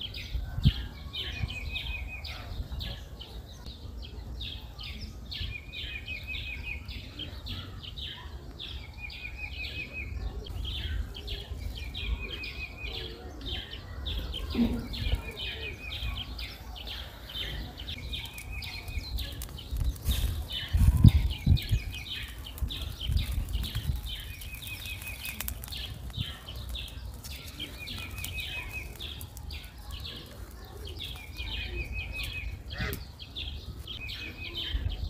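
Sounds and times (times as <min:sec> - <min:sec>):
songbirds trilling: 0:00.0 - 0:35.0.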